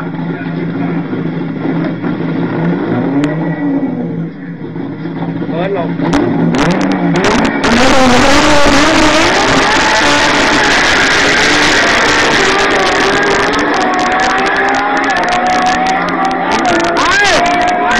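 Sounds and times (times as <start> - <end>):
dragster engine roaring: 0.0 - 17.9.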